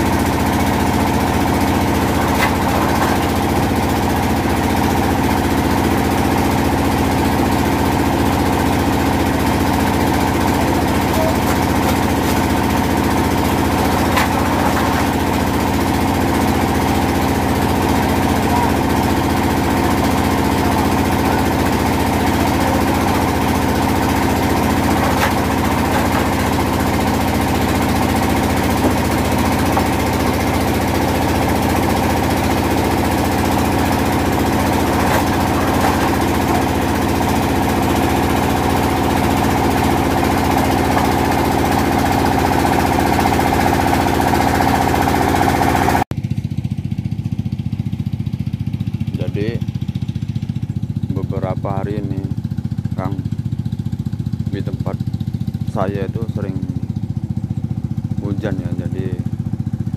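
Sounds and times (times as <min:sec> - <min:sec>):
machine engine droning: 0:00.0 - 0:59.9.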